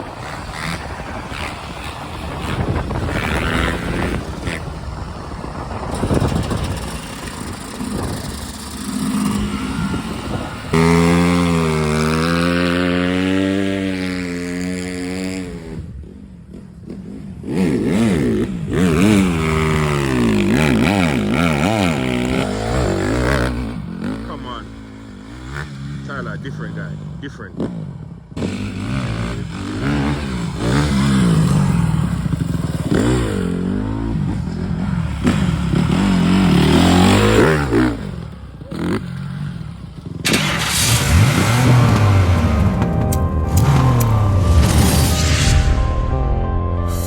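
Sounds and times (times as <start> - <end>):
dirt bike engines revving: 0.0 - 44.8.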